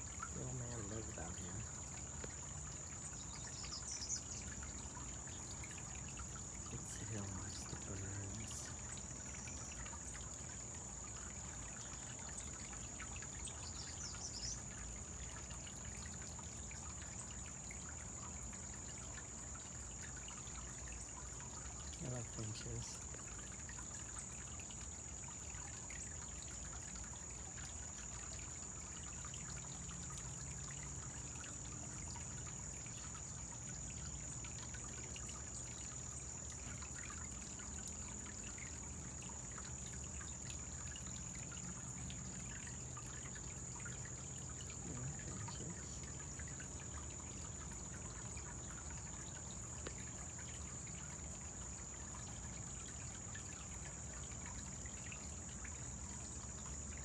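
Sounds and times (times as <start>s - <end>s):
waterfall trickling: 0.0s - 57.0s.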